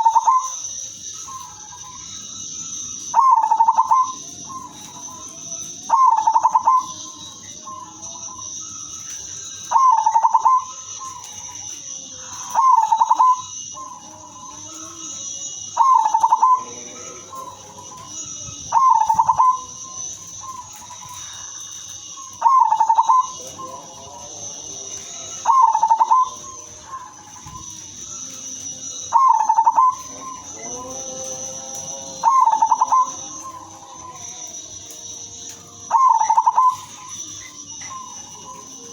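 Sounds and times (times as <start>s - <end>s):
dove cooing: 0.0s - 38.9s
steady high-pitched whine: 0.0s - 38.9s.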